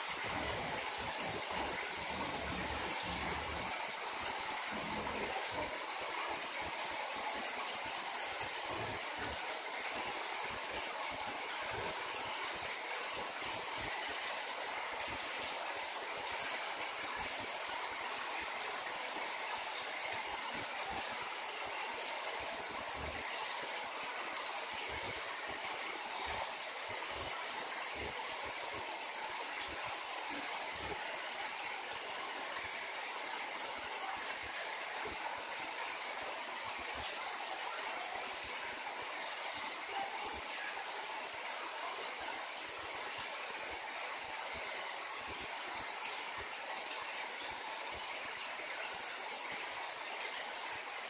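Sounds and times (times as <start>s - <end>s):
heavy rain on pavement: 0.0s - 51.0s.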